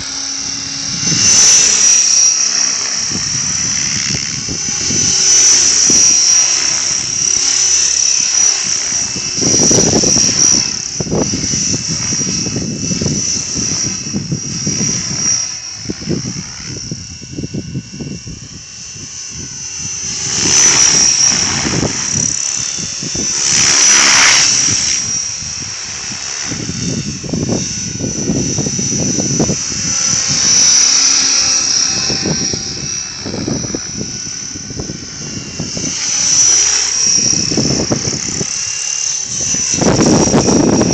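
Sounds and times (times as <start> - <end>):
model helicopter rotor whine: 0.0 - 40.9
wind buffeting microphone: 0.0 - 40.9.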